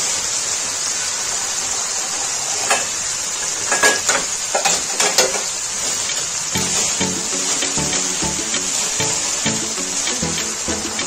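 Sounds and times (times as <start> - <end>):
meat sizzling in gravy: 0.0 - 11.0.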